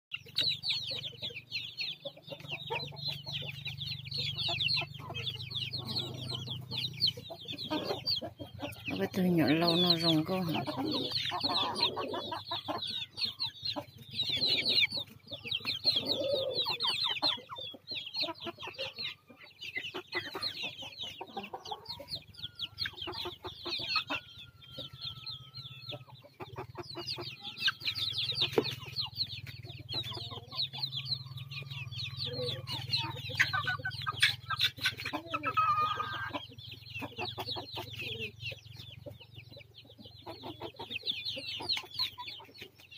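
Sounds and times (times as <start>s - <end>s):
chicks cheeping: 0.1s - 42.9s.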